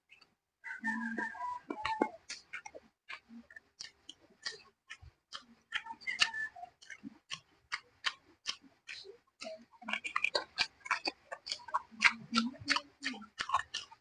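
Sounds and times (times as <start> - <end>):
mouth smacks while chewing: 0.1 - 14.0.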